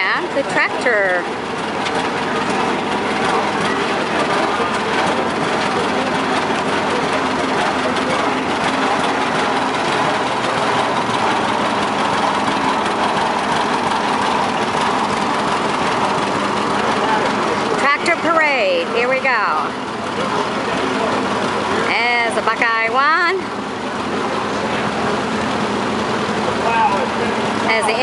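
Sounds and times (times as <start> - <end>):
tractor engines running: 0.0 - 28.0.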